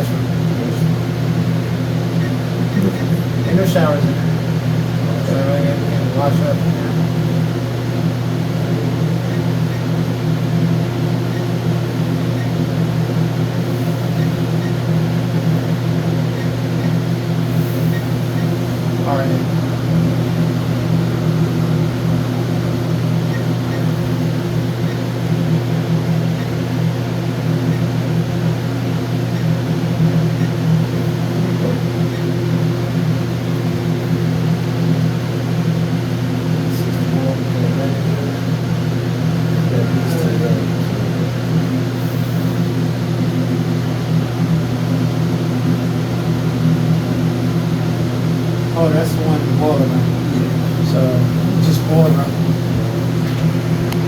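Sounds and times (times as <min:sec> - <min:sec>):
low machinery hum: 0:00.0 - 0:54.0.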